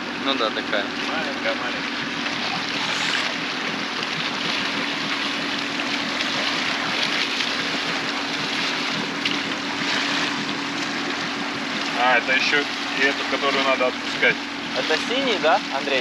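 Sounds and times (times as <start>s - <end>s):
low engine hum: 0.0s - 16.0s
sea water washing around hull: 0.0s - 16.0s.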